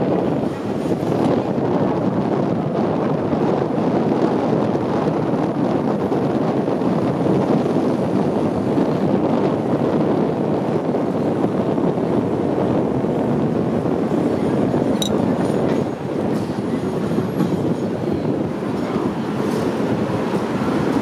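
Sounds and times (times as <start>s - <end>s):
electric tram running on tracks: 0.0s - 21.0s
wind on microphone: 0.0s - 21.0s.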